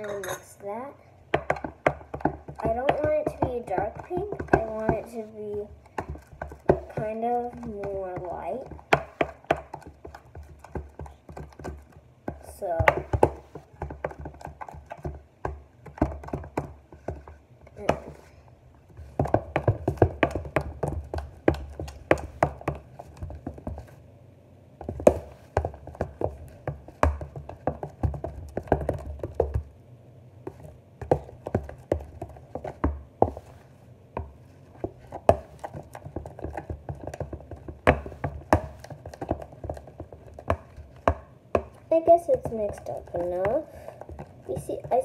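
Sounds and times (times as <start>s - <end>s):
stirring tool tapping plastic tub: 1.3s - 18.3s, 18.9s - 23.9s, 24.8s - 29.7s, 30.4s - 45.0s.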